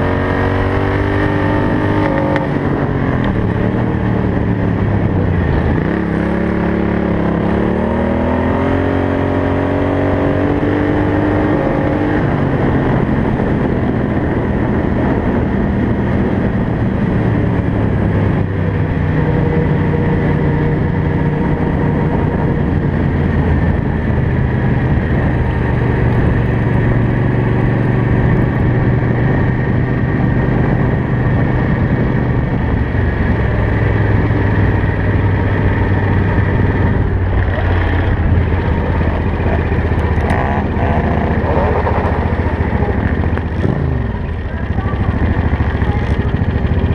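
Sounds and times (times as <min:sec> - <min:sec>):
lawn mower engine at full throttle: 0:00.0 - 0:46.9.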